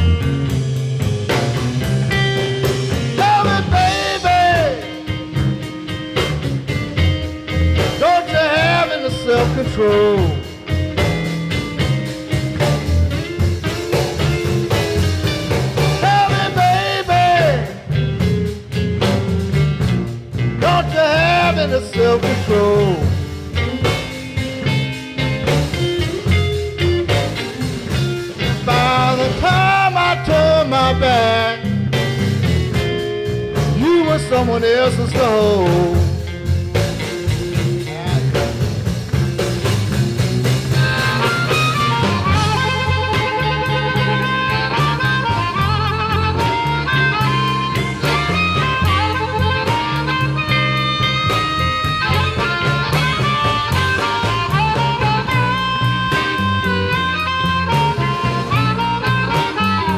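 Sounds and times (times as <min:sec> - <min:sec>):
drums: 0:00.0 - 0:59.9
electric guitar soloing: 0:00.0 - 0:59.9
harmonica: 0:00.0 - 0:59.9
upright bass: 0:00.0 - 0:59.9.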